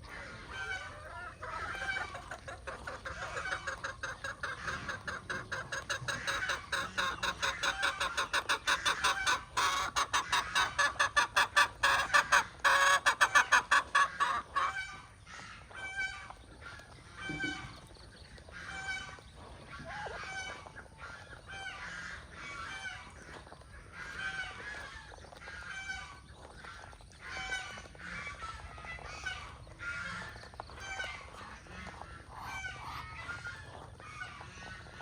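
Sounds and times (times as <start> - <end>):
poultry calling: 0.0 - 35.0.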